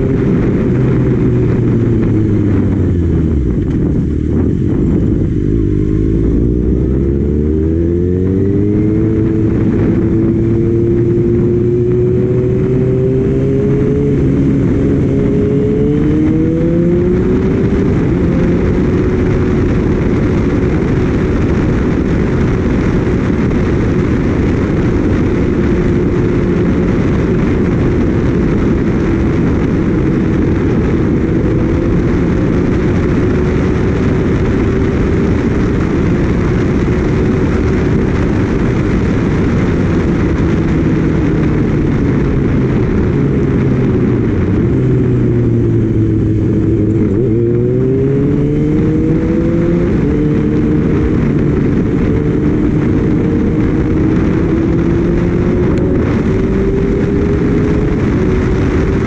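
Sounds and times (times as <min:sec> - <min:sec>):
wind rush on microphone: 0:00.0 - 0:59.0.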